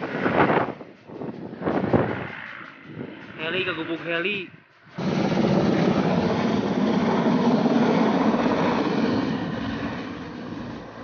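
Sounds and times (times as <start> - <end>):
helicopter rotor and turbine noise: 0.0 - 11.0.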